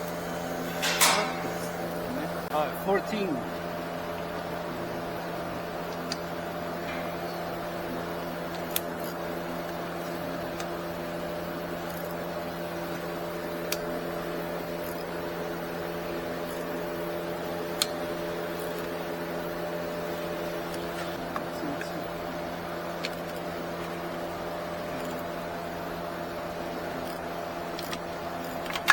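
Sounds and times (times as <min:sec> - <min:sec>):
machine hum: 0:00.0 - 0:28.9.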